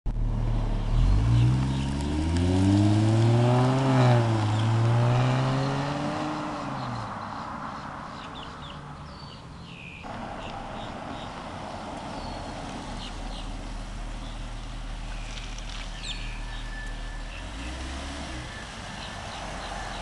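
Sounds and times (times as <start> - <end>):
car engine accelerating: 0.1 - 8.8, 10.1 - 20.0
birds chirping: 0.8 - 20.0.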